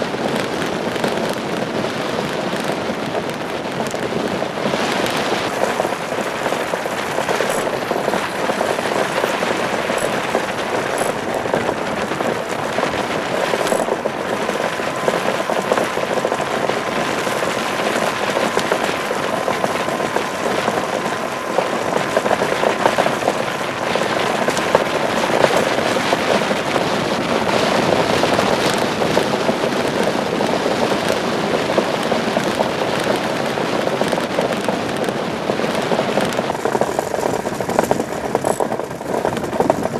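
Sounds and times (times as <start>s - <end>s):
steel blade skating on ice: 0.2s - 33.2s, 35.8s - 39.9s.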